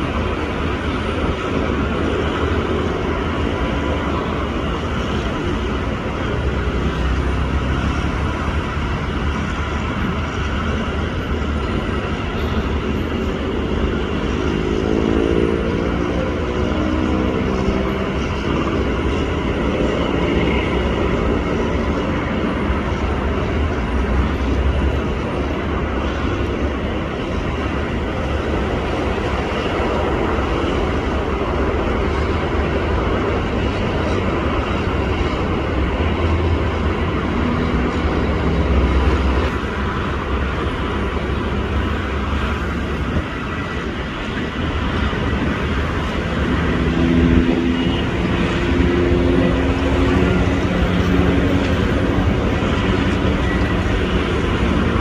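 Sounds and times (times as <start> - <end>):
engine and traffic rumble: 0.0 - 55.0.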